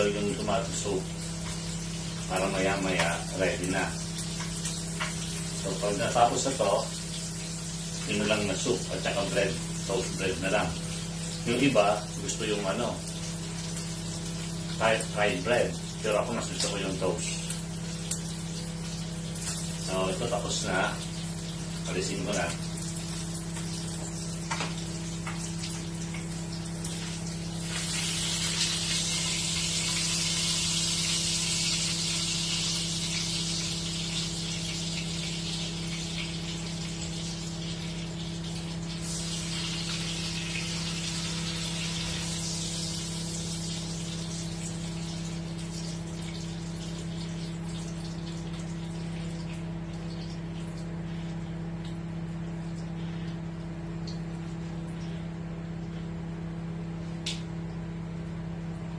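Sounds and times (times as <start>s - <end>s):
food sizzling in a frying pan: 0.0s - 50.3s.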